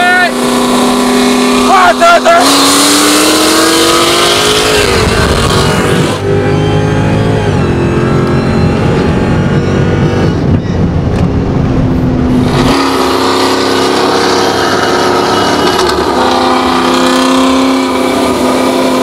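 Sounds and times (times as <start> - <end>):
engines running hard: 0.0 - 19.0.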